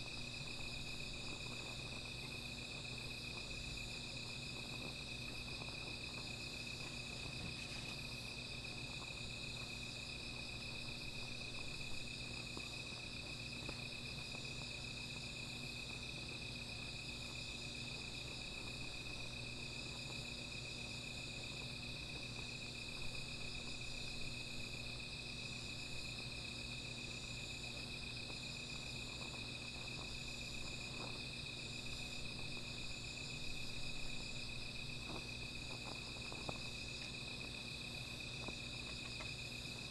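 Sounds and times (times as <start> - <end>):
insects trilling: 0.0 - 39.9
small fire crackling: 0.0 - 39.9.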